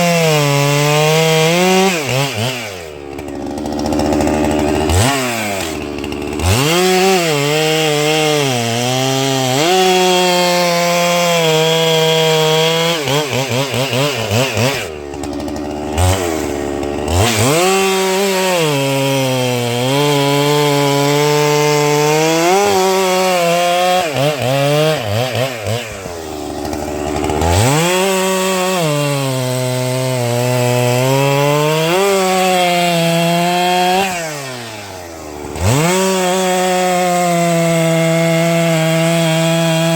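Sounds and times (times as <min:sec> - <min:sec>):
chainsaw cutting wood: 0:00.0 - 0:39.9
chainsaw throttle blipping: 0:00.0 - 0:39.9.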